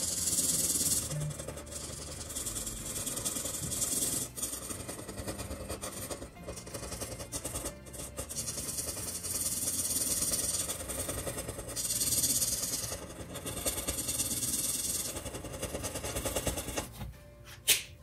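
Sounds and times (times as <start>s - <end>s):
marker scribbling on paper: 0.0s - 16.8s.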